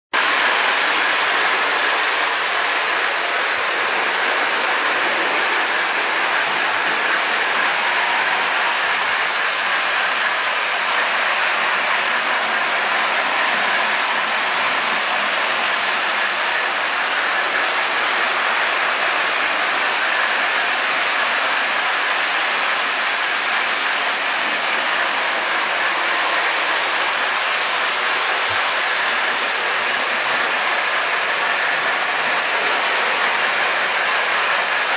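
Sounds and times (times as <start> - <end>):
toy trains running on track: 0.2 - 34.9.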